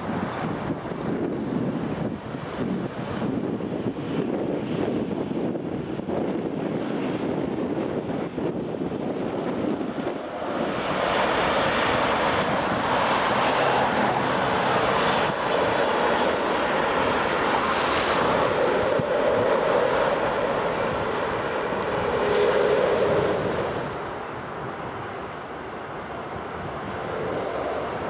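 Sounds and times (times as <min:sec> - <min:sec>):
jet airliner taking off: 0:00.0 - 0:28.0
wind on microphone: 0:00.0 - 0:28.0.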